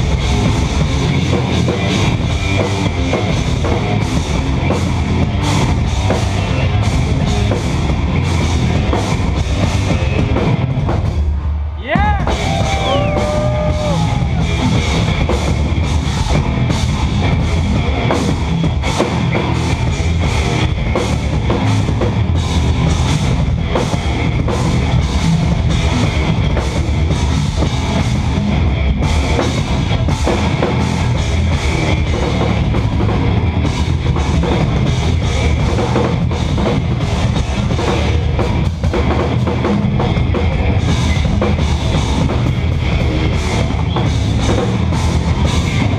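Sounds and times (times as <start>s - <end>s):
drum kit: 0.0s - 45.9s
electric guitars: 0.0s - 45.9s.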